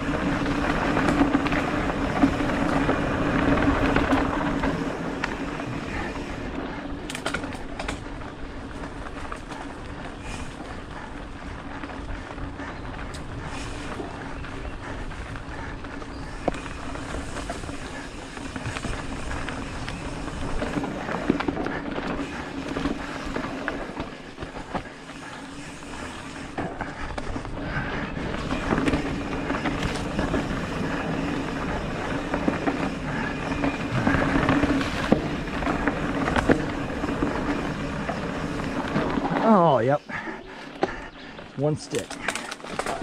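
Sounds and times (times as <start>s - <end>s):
bike clicks and rattles: 0.0s - 43.0s
bike tyres rolling on dirt: 0.0s - 43.0s.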